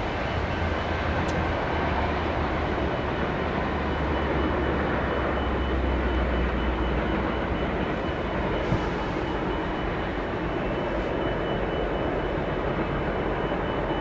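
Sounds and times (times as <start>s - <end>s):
diesel drone: 0.0s - 14.0s
train rumbling rush: 0.0s - 14.0s.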